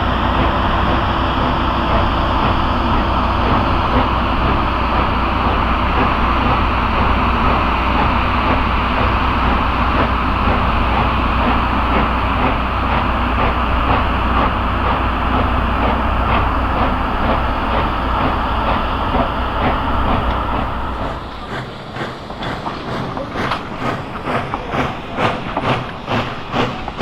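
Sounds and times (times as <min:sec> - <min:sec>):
steam train rumbling on rails: 0:00.0 - 0:27.0.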